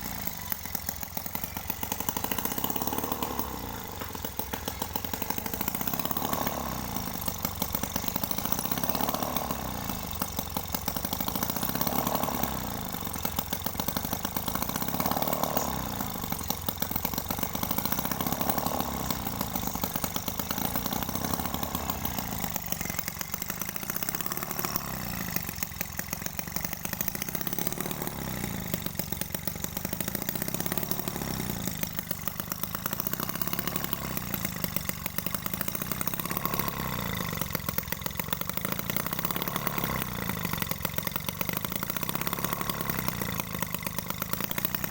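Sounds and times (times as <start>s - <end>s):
small two-stroke engine buzzing: 0.0s - 44.9s.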